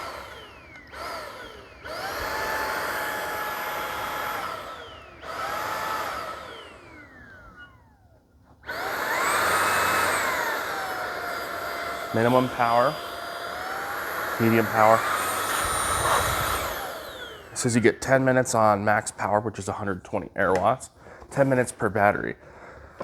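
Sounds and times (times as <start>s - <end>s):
vacuum motor whining: 0.0s - 19.4s.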